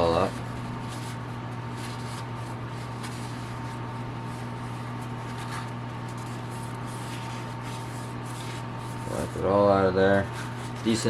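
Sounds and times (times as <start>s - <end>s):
paper towel rustling: 0.0s - 11.0s
steady low hum: 0.0s - 11.0s.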